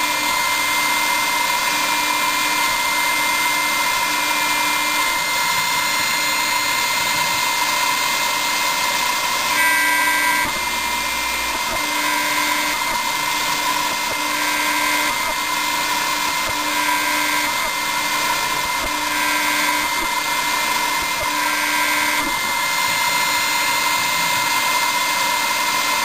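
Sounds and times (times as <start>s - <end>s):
milling machine whirring whine: 0.0s - 26.0s.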